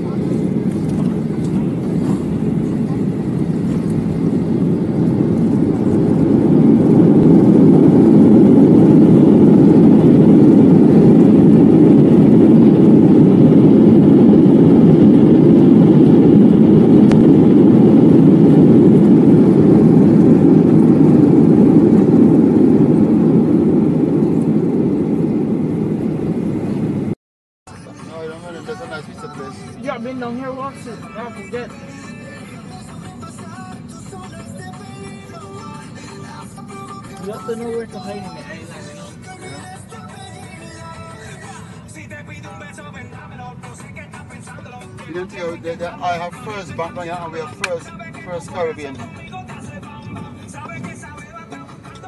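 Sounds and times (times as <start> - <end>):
airliner engines roaring: 0.0 - 52.0.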